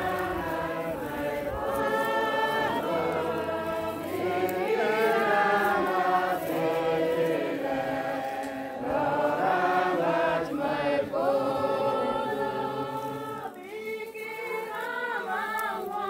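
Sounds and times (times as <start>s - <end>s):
congregation singing a hymn: 0.0s - 16.0s.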